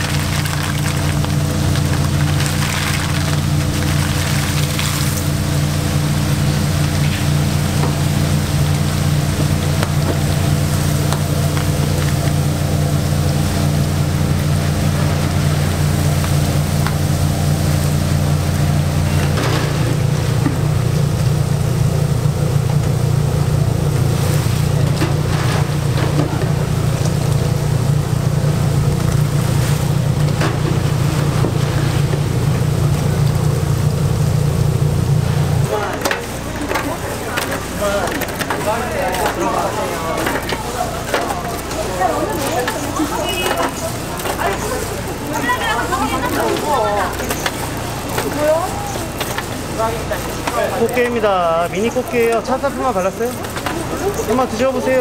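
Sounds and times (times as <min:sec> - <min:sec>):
deep-fryer mechanical hum: 0:00.0 - 0:55.0
food frying in hot oil: 0:00.0 - 0:55.0
wire skimmer scraping: 0:00.0 - 0:55.0.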